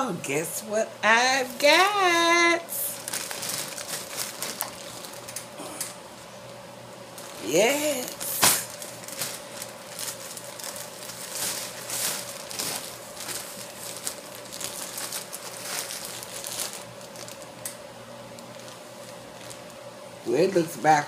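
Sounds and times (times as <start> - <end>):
plastic bag rustling: 1.4 - 19.9.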